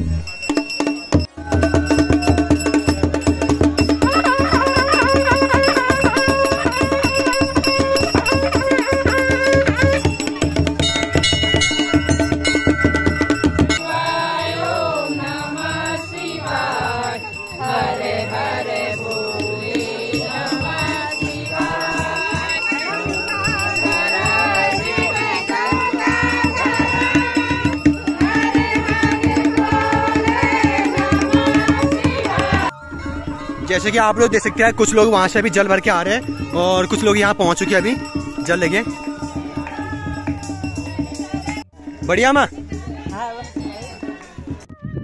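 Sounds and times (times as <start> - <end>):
drum beats: 0.0 - 45.0
rattling percussion: 0.0 - 45.0
group chanting and singing: 1.8 - 44.6.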